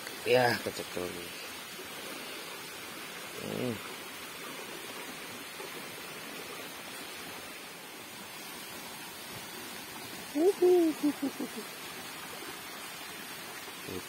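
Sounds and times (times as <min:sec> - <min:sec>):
water rushing through channel: 0:00.0 - 0:14.0.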